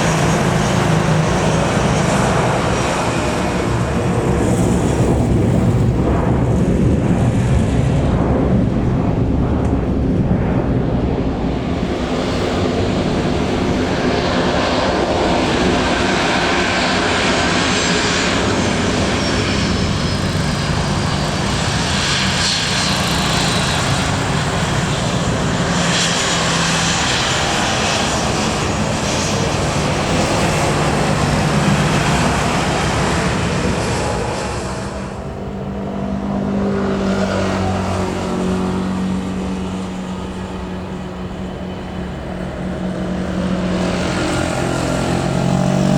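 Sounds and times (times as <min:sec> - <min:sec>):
jet airliner passing low: 0:00.0 - 0:45.9.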